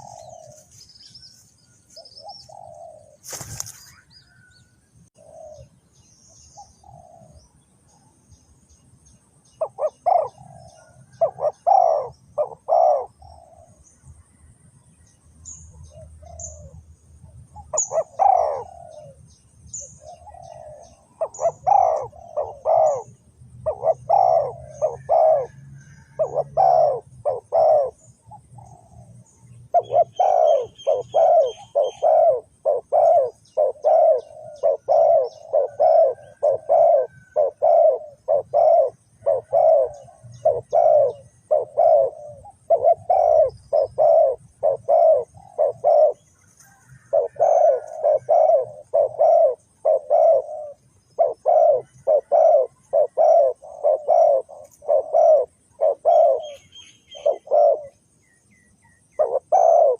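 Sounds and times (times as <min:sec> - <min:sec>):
doves cooing: 0:00.0 - 0:00.8, 0:02.0 - 0:04.5, 0:05.1 - 0:05.8, 0:06.6 - 0:07.6, 0:09.6 - 0:14.0, 0:15.8 - 0:58.2, 0:58.9 - 0:59.9.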